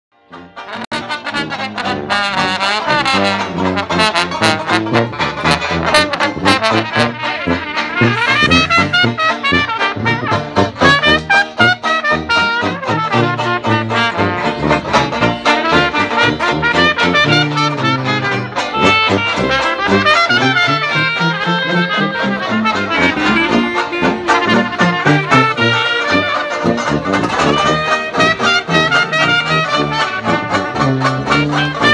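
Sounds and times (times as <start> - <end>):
banjo strumming: 0.2 - 31.9
sousaphone bass: 0.2 - 31.9
clarinet: 0.3 - 31.9
jazz band playing: 0.3 - 31.9
saxophone: 0.4 - 31.9.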